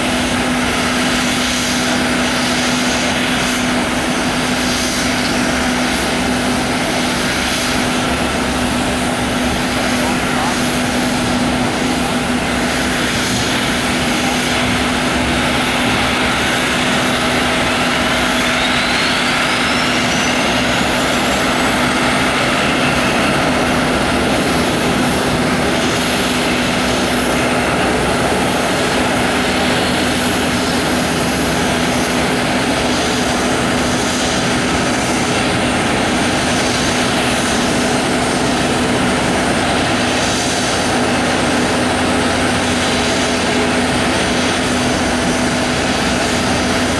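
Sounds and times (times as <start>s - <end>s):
jet engine noise: 0.0s - 46.9s.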